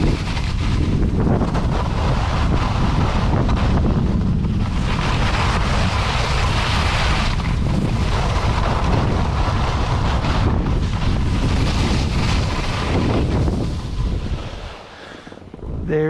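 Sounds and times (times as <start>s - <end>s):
skis carving on snow: 0.0s - 15.4s
wind buffeting microphone: 0.0s - 16.0s.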